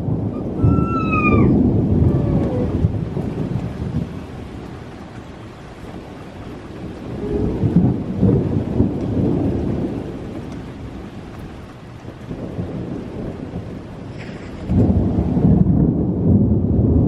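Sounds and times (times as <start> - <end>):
steady rain: 0.0 - 17.0
thunder rolling: 0.0 - 17.0.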